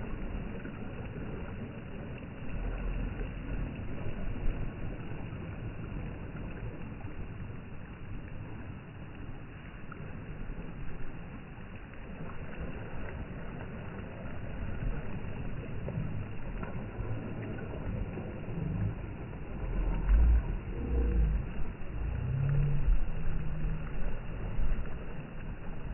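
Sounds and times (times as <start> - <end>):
small waves washing onto shore: 0.0 - 25.9
wind rumbling on microphone: 0.0 - 25.9.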